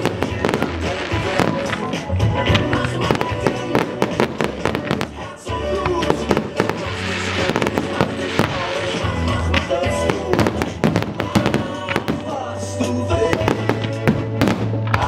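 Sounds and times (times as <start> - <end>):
fireworks bursting and crackling: 0.0 - 15.0
loud music with heavy bass: 0.0 - 15.0.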